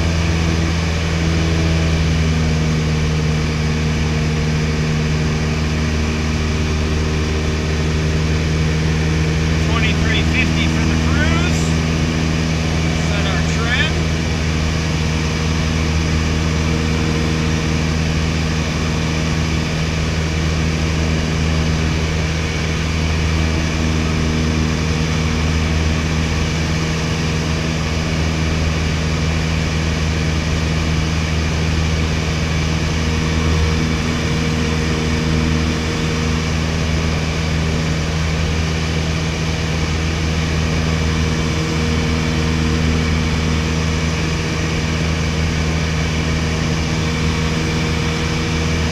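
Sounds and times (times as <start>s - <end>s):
aircraft engine and propeller: 0.0s - 48.9s.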